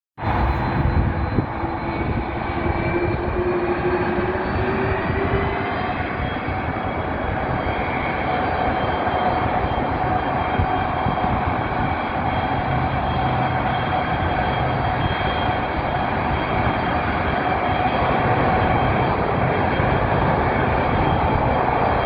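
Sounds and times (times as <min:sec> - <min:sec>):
jet engines rumbling: 0:00.2 - 0:22.0.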